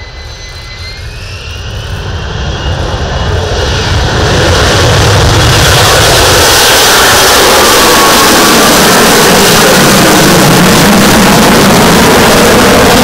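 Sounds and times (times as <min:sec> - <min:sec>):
jet engine at high thrust: 0:00.0 - 0:13.0.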